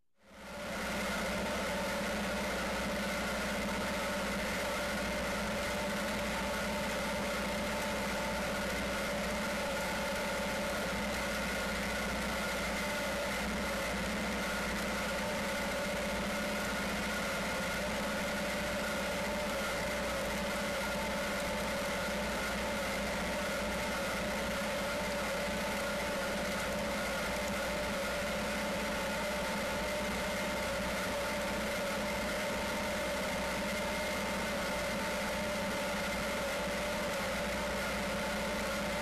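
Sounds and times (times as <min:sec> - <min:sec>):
steady mechanical whine: 0:00.2 - 0:39.0.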